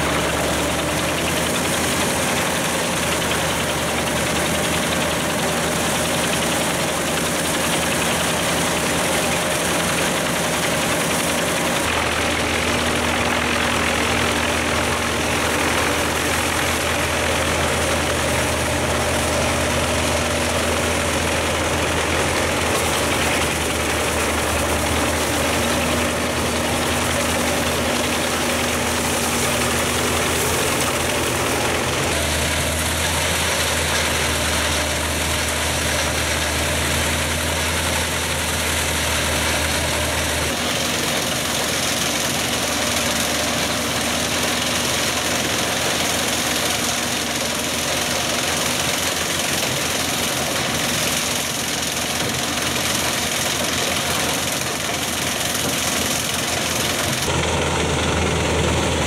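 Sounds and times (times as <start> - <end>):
wood chipper chipping branches: 0.0 - 59.0.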